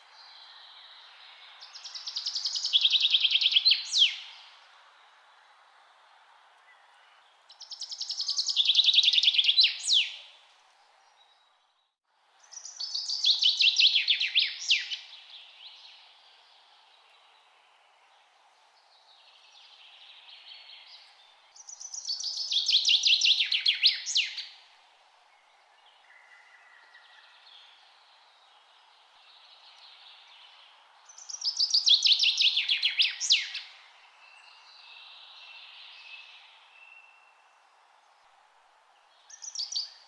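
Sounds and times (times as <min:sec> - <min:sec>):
steady background hiss: 0:00.0 - 0:11.3, 0:12.1 - 0:40.0
faint birdsong: 0:00.0 - 0:40.0
songbird singing: 0:00.0 - 0:40.0.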